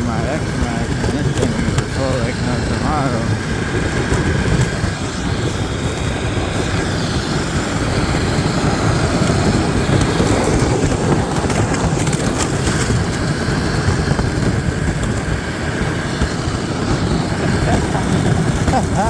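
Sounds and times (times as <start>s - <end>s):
sled scraping across ice: 0.0s - 19.0s.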